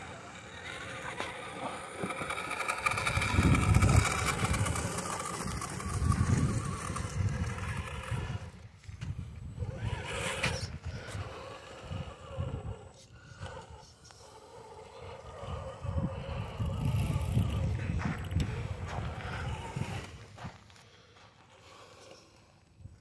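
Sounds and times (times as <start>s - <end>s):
toy truck motor whine: 0.0s - 20.2s.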